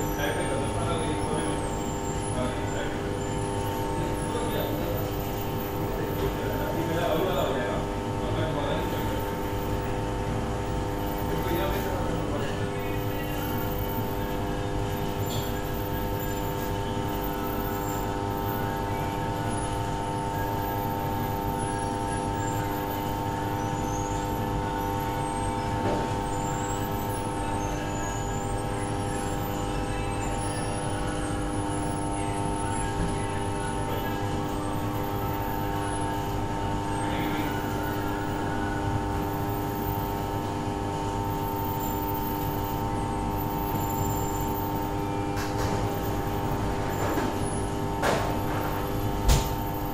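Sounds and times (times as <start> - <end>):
steady mechanical hum: 0.0 - 49.9.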